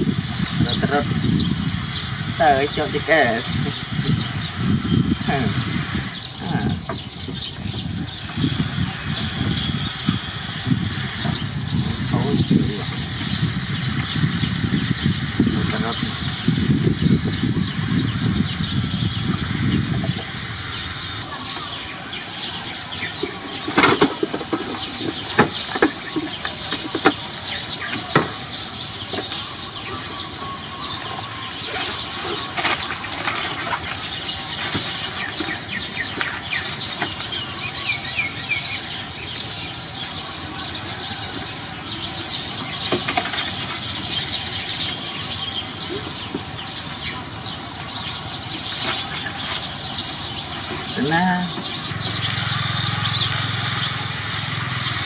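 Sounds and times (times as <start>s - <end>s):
bird chirps: 0.0s - 55.0s
steady outdoor hiss: 0.0s - 55.0s.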